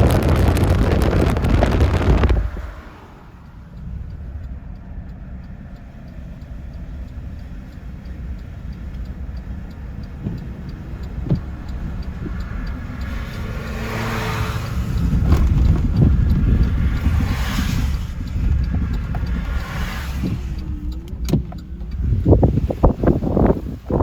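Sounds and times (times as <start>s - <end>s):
rushing whooshes: 0.0s - 5.4s, 9.1s - 24.0s
car engine and road noise: 0.0s - 24.0s.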